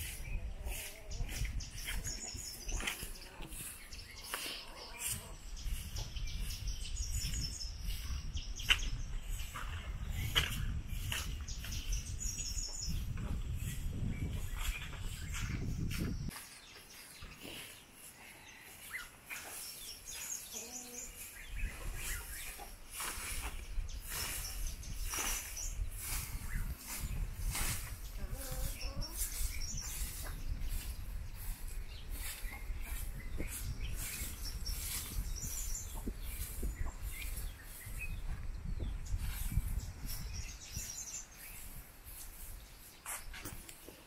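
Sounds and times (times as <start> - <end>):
birds chirping: 0.0 - 44.0
broom sweeping dirt: 0.0 - 44.0.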